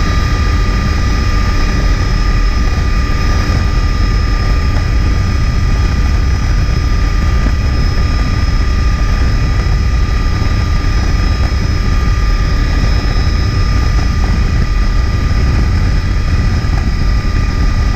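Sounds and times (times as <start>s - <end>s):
constant whine: 0.0s - 17.9s
helicopter rotor and engine drone: 0.0s - 17.9s.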